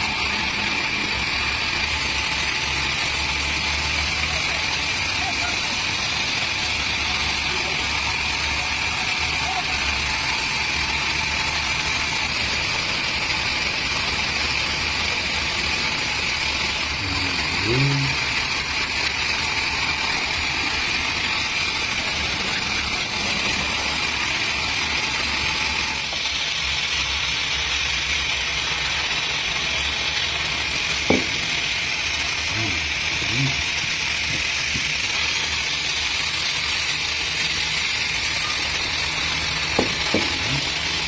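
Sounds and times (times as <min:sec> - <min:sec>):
chainsaw engine running: 0:00.0 - 0:41.0.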